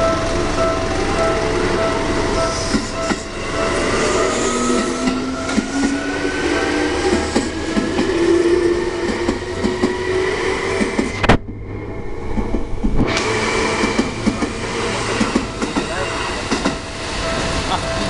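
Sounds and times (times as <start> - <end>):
electric train motor whine: 0.0 - 17.2.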